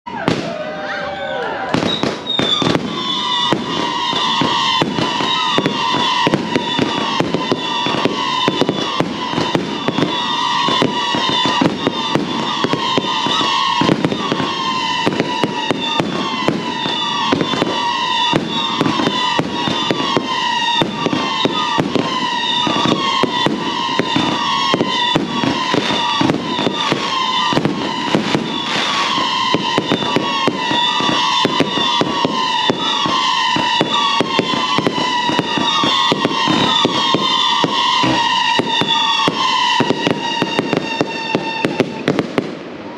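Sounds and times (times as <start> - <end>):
firework whistles: 0.1 - 42.9
fireworks popping and banging: 0.1 - 42.9.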